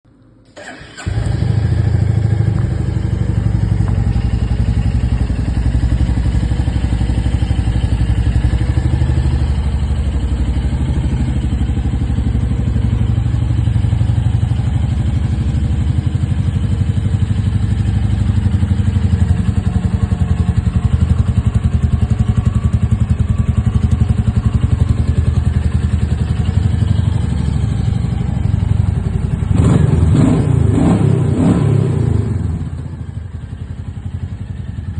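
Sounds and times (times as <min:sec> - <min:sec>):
motorcycle engine running steadily: 0:01.0 - 0:34.9.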